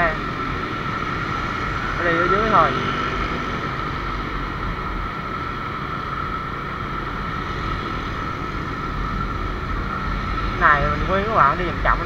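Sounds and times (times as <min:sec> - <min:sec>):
road noise: 0:00.0 - 0:12.0
surrounding scooter traffic hum: 0:00.0 - 0:12.0.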